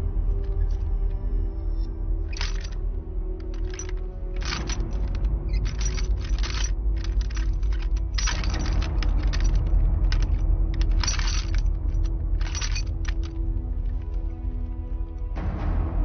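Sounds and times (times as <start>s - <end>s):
low music score: 0.0s - 16.0s
metal chains rattling: 0.3s - 1.1s, 2.2s - 14.3s.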